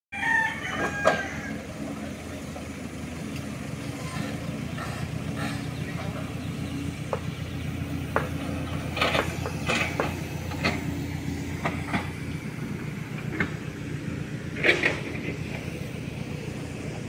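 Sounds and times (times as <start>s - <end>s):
excavator diesel engine running: 0.2s - 17.0s.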